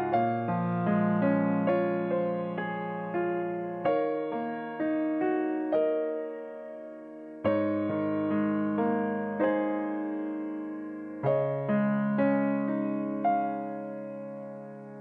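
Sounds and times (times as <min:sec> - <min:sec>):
slow keyboard piano music: 0:00.0 - 0:15.0.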